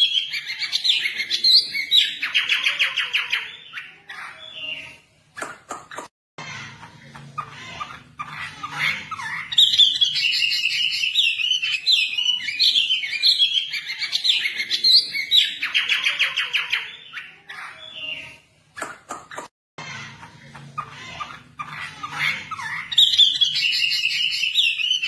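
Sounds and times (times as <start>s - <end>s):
songbird chirping and trilling: 0.0s - 5.1s, 6.5s - 18.5s, 19.9s - 25.0s.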